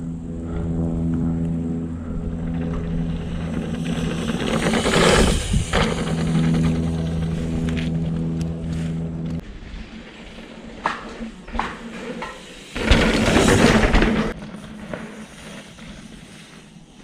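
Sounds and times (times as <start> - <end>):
buzzing hum: 0.0 - 15.2
bike tyres on dirt: 1.3 - 17.0.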